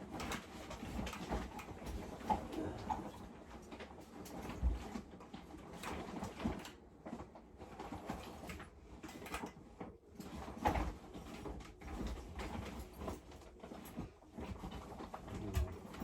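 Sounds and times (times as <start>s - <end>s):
blinds knocking and rattling: 0.0s - 16.0s.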